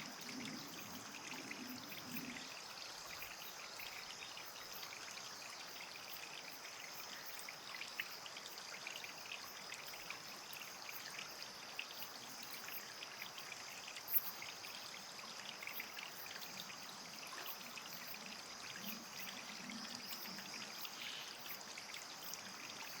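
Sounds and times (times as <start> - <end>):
trickle of running water: 0.0 - 23.0.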